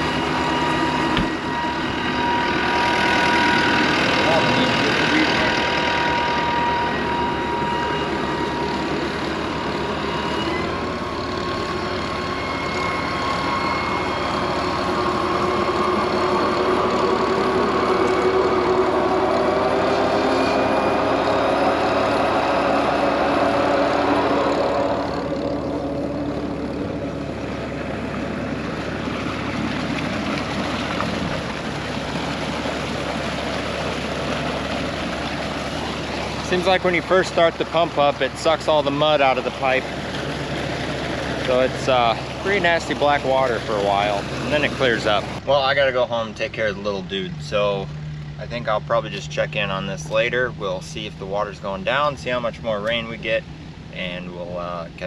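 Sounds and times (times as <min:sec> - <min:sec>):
water pouring from pipe: 0:00.0 - 0:45.4
tractor diesel engine: 0:00.0 - 0:55.0.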